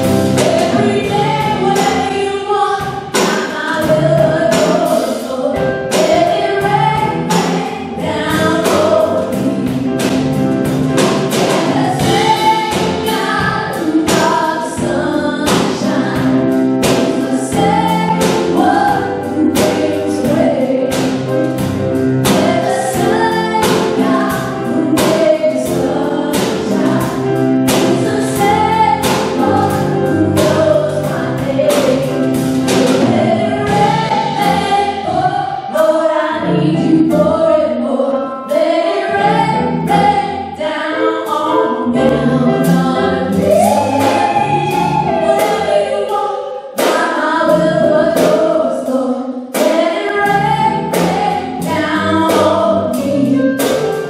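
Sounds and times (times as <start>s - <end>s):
women singing: 0.0s - 10.0s, 11.3s - 21.3s, 22.2s - 53.7s
drums keeping beat: 0.0s - 35.3s, 42.4s - 46.1s, 49.6s - 54.0s
worship band playing: 0.0s - 54.0s.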